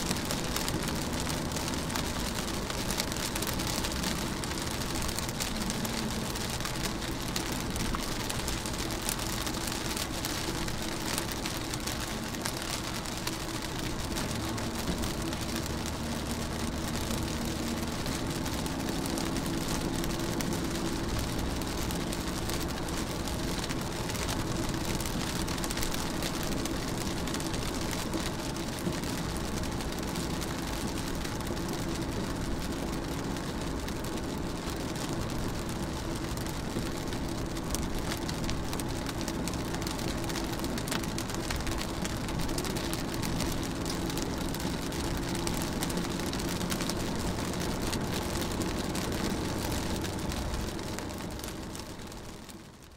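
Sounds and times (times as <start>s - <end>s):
rain on a car windshield: 0.0s - 52.9s.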